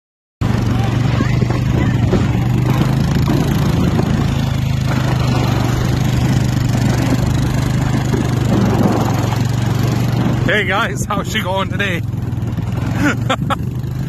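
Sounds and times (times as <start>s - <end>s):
vehicle engine humming steadily: 0.4s - 14.0s.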